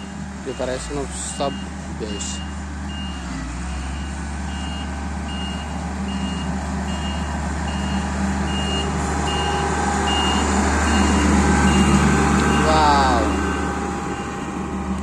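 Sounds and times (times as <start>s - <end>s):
reversing alarm beeping: 0.0s - 14.6s
diesel engine running: 0.0s - 15.0s.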